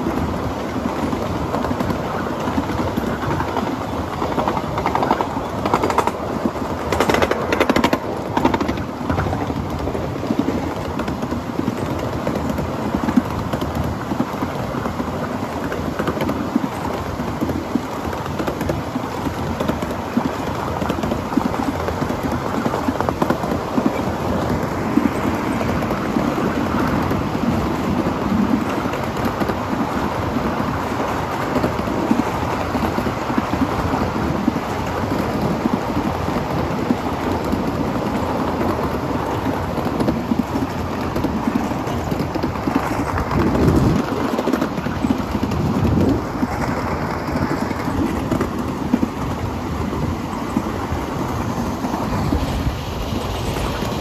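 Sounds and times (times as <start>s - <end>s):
steam train wheels clattering on track: 0.0s - 54.0s.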